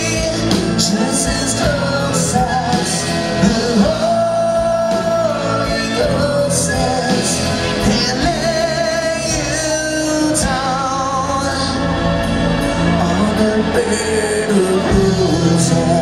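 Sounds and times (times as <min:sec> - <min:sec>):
bass guitar: 0:00.0 - 0:16.0
drums: 0:00.0 - 0:16.0
electric guitar: 0:00.0 - 0:16.0
man singing with vibrato: 0:00.0 - 0:16.0.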